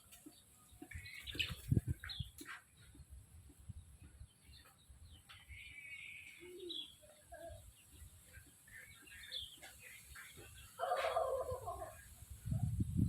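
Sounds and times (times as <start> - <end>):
chickens clucking and calling: 0.0 - 3.1, 4.0 - 12.8.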